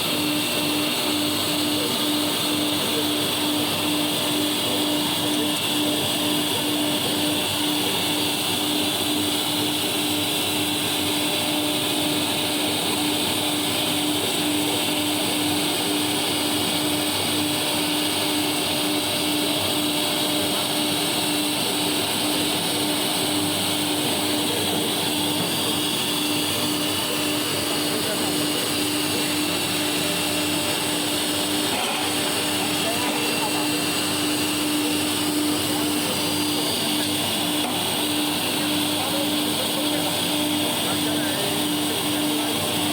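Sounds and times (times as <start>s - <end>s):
cnc router drone: 0.0s - 42.9s
vacuum dust collector hum: 0.0s - 42.9s.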